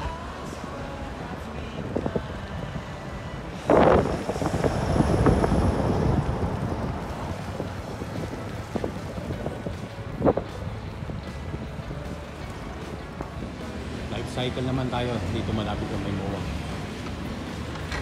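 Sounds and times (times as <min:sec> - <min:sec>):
bicycle rumbling on rough road: 0:00.0 - 0:18.0
traffic noise: 0:00.0 - 0:18.0
wind buffeting microphone: 0:00.8 - 0:18.0.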